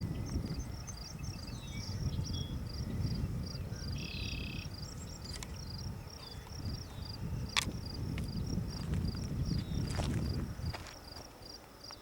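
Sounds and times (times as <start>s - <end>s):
insects chirping: 0.1s - 12.0s
buzzy insect call: 0.2s - 12.0s.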